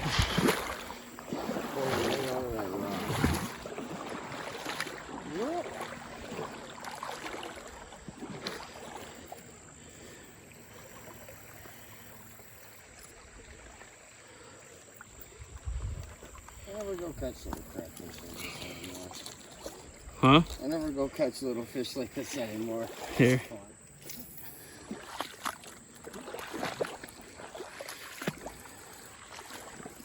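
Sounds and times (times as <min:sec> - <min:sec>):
water splashing around wading legs: 0:00.0 - 0:21.2, 0:22.0 - 0:30.0
stream washing: 0:00.0 - 0:30.0.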